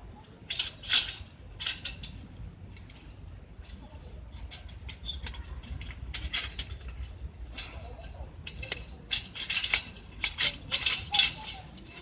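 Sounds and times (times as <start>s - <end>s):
metal camping gear clinking: 0.2s - 12.0s.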